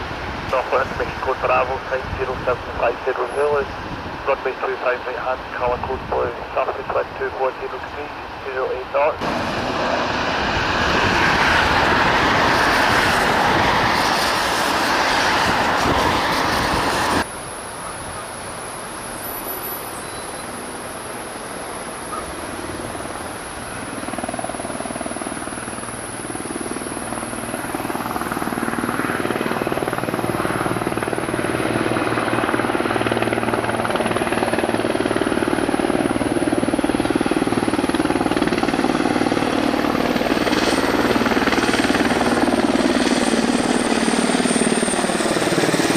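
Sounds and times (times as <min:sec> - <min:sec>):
aircraft engine: 0:00.0 - 0:45.9
loud rush of aircraft noise: 0:00.0 - 0:45.9.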